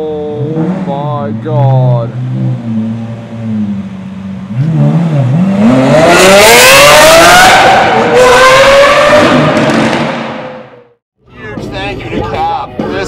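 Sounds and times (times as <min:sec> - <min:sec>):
sports car accelerating hard: 0:00.0 - 0:10.8.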